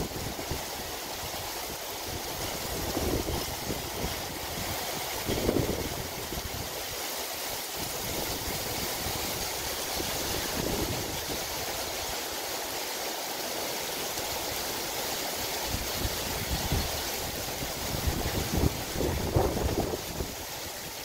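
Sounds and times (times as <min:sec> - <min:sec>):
heavy rain on trees: 0:00.0 - 0:21.0.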